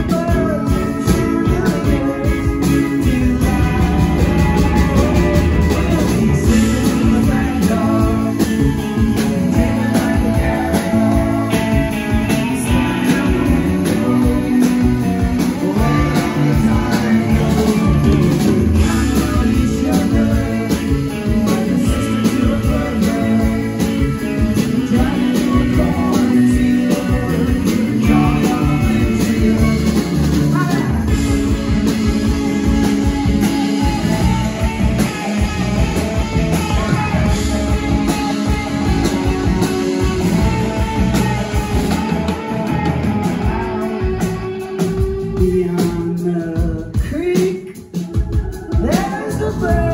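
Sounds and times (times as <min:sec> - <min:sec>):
drums: 0:00.0 - 0:49.9
electric bass: 0:00.0 - 0:49.9
electric guitar: 0:00.0 - 0:49.9
keyboards: 0:00.0 - 0:49.9.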